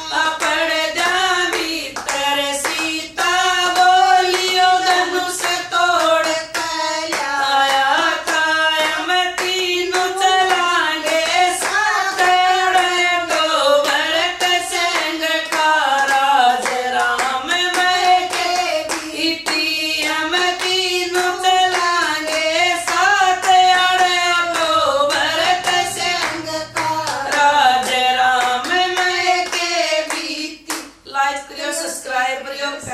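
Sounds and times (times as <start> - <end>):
hand claps: 0.0 - 31.0
women singing devotional song: 0.0 - 32.9.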